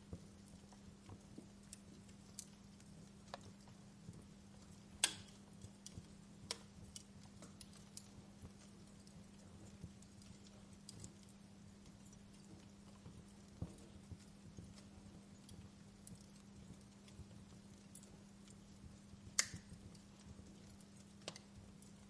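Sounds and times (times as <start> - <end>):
faint low hum: 0.0 - 22.0
wood fire crackling: 0.0 - 22.0.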